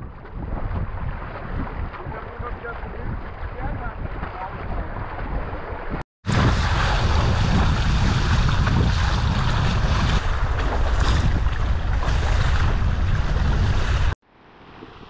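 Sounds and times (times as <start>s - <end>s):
wind buffeting microphone: 0.0s - 14.2s
water and waves rushing: 0.0s - 15.0s.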